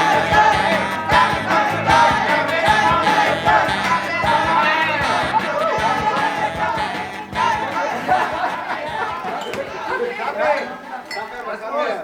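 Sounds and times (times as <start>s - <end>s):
rock band with singing: 0.0s - 10.0s.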